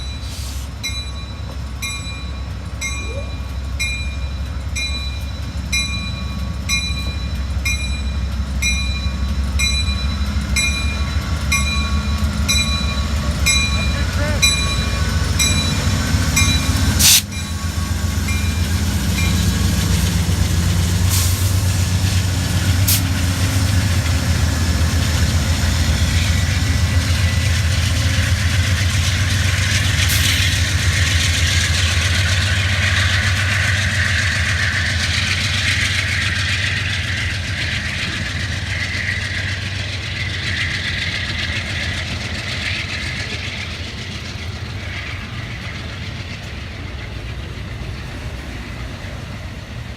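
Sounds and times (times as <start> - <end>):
diesel locomotive rumble: 0.0 - 49.9
wheel and rail noise: 0.0 - 49.9.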